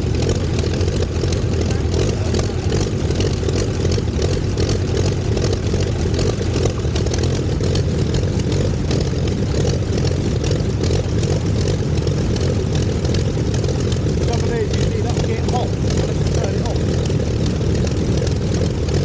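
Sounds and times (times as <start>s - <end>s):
aero engine idling: 0.0s - 19.0s.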